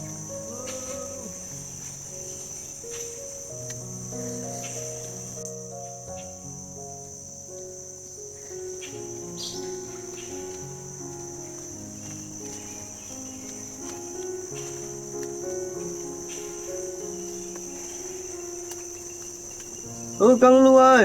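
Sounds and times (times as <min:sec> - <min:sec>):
crickets trilling: 0:00.0 - 0:21.0
soft background music: 0:00.0 - 0:21.0.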